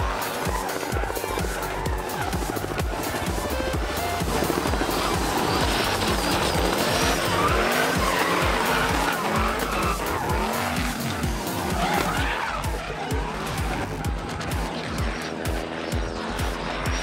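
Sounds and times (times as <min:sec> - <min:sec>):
tyres squealing: 0:00.0 - 0:14.6
background music: 0:00.0 - 0:17.0
car engine revving: 0:00.0 - 0:17.0
helicopter rotor: 0:00.0 - 0:17.0.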